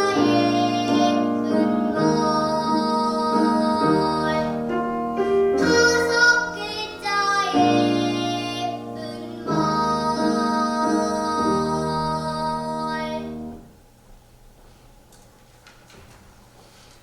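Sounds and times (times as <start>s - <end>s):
girl singing: 0.0s - 13.7s.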